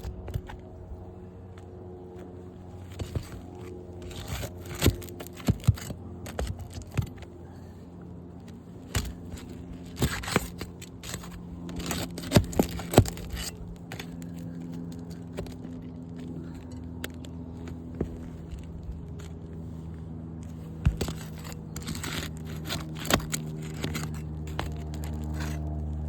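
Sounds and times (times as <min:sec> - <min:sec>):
steady low hum: 0:00.0 - 0:26.0
shingles scraping and tearing: 0:02.7 - 0:07.8, 0:08.5 - 0:26.0.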